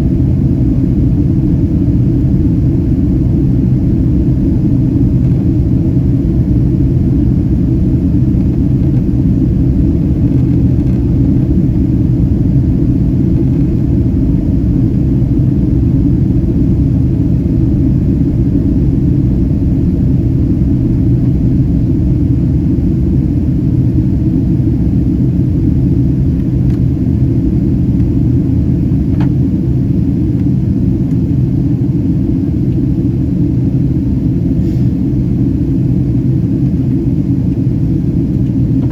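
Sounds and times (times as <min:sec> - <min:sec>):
jet engines roaring in cabin: 0:00.0 - 0:38.9.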